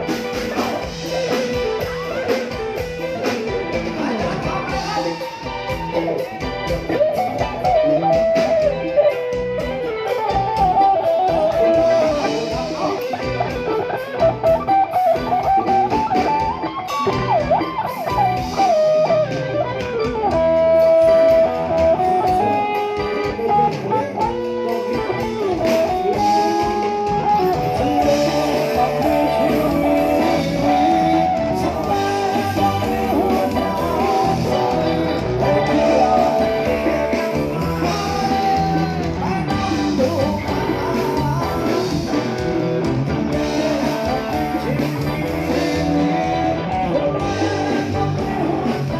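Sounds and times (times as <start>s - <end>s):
bass and drums: 0.0s - 48.9s
bending electric guitar lead: 0.0s - 48.9s.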